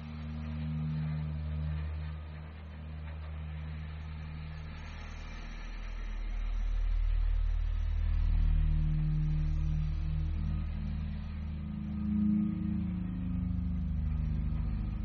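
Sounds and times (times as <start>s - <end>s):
low electronic drone: 0.0s - 15.0s.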